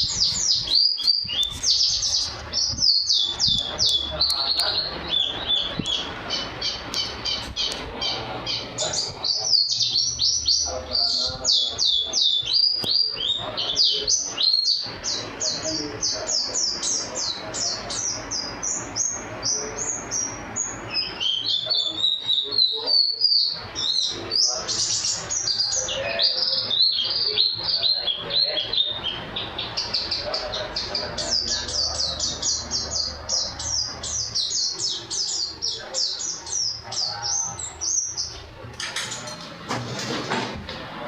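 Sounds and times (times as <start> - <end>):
songbird singing: 0.0 - 39.6.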